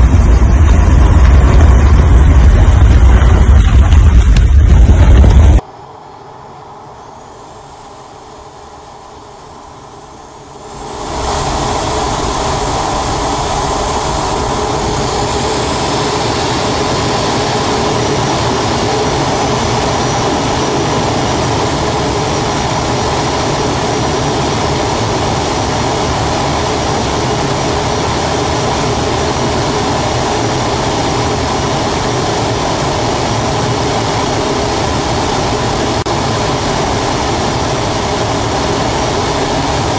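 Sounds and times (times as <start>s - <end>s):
jet takeoff rush: 0.0s - 39.9s.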